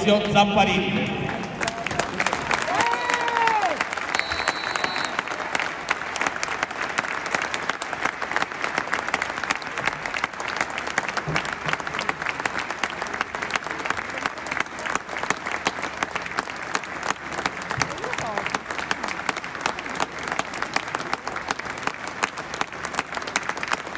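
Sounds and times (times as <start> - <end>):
stadium crowd applauding: 0.0 - 23.9.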